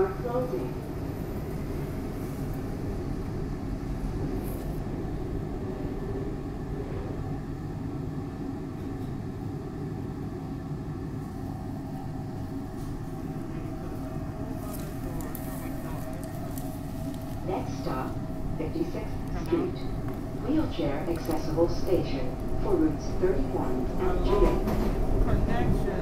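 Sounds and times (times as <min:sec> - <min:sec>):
train car rumble and hum: 0:00.0 - 0:26.0
train passing: 0:00.0 - 0:26.0.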